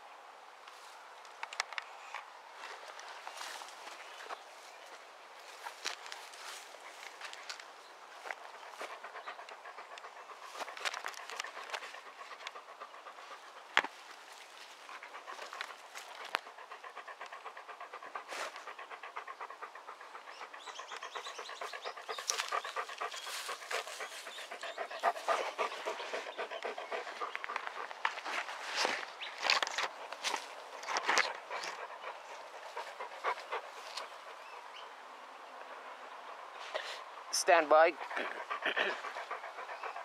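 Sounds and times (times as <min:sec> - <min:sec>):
dog panting: 0:05.5 - 0:34.9, 0:35.6 - 0:40.0.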